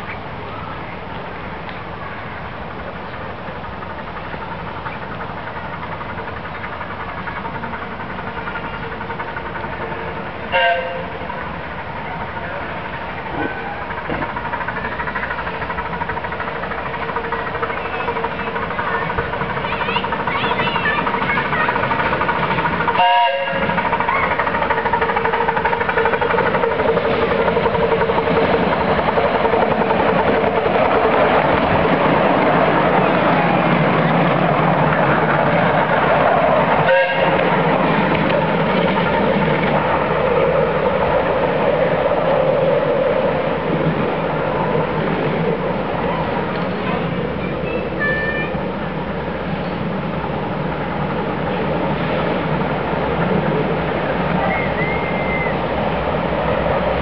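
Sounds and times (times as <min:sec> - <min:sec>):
miniature train running past: 0:00.0 - 0:57.0.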